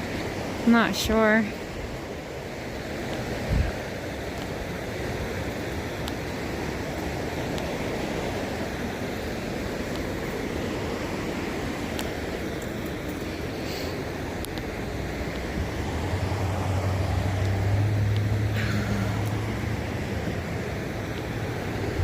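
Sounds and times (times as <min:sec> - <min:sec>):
river water rushing over rocks: 0:00.0 - 0:22.0.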